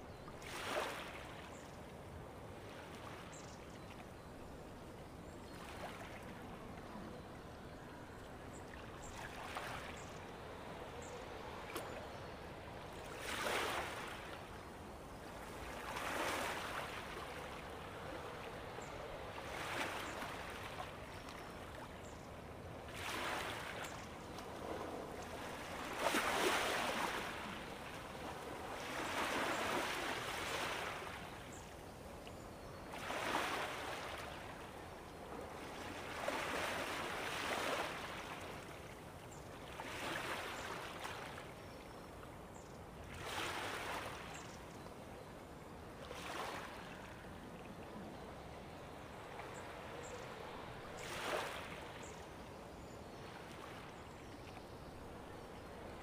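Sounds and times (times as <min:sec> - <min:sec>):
gentle ocean waves: 0:00.0 - 0:56.0.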